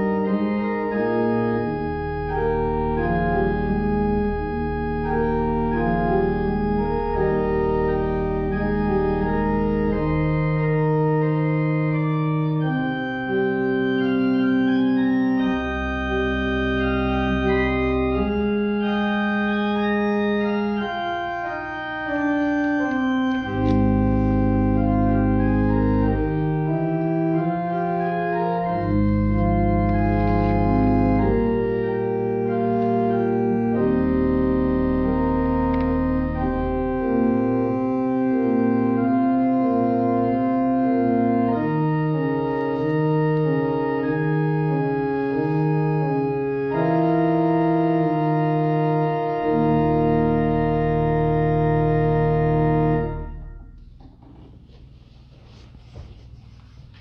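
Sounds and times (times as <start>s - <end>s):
deep organ pedal bass notes: 0.0s - 54.2s
church organ chords: 0.0s - 54.6s.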